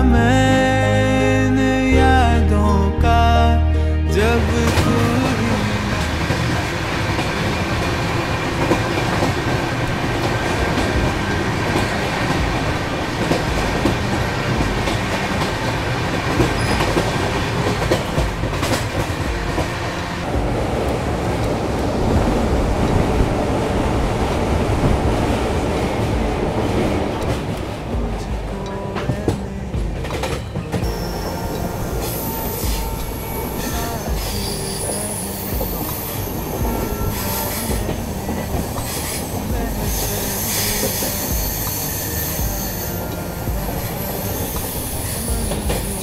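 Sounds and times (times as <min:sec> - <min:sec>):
train wheels clattering on rails: 0:04.6 - 0:46.0.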